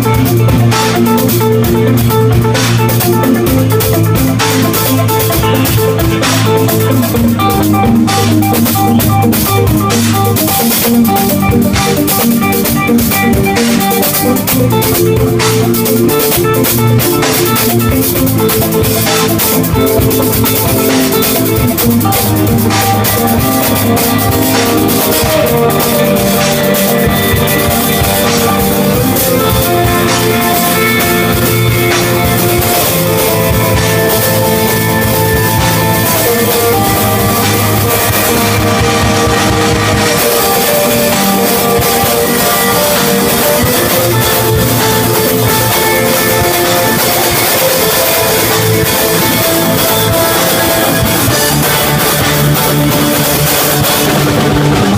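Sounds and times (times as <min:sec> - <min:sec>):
rock song with guitar and drums: 0:00.0 - 0:54.9.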